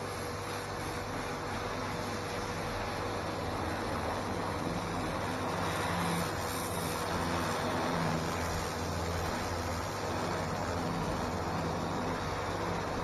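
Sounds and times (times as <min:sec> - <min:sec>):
pressure washer humming: 0:00.0 - 0:13.0
water jet hissing on concrete: 0:00.0 - 0:13.0.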